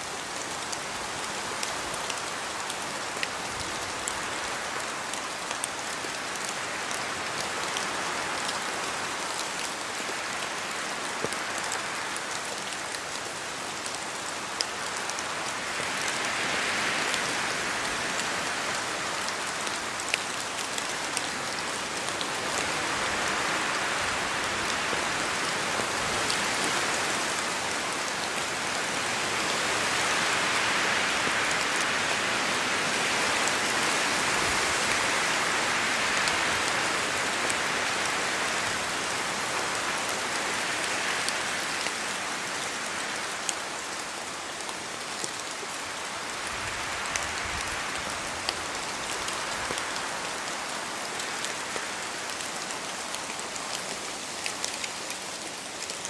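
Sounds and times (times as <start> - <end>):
rain falling through trees: 0.0 - 56.0.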